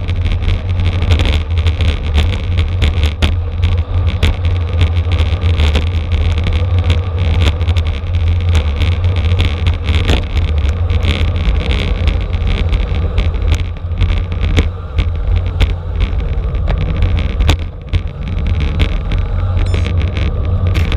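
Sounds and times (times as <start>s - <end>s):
sharp clicks and rattles: 0.0s - 20.9s
wind rumbling on microphone: 0.0s - 20.9s.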